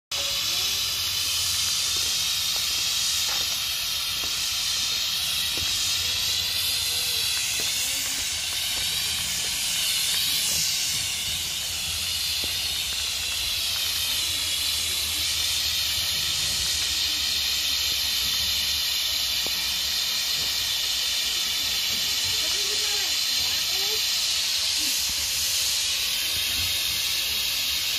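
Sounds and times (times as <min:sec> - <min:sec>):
steam locomotive hissing steam: 0:00.1 - 0:27.9.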